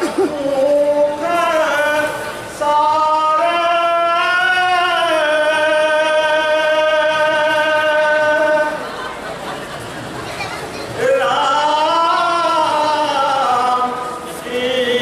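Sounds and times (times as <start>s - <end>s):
man singing devotional song: 0.0s - 8.8s, 11.0s - 15.0s.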